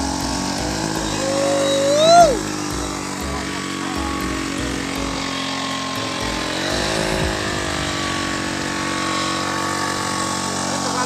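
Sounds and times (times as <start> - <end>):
petrol generator engine running: 0.0 - 11.0.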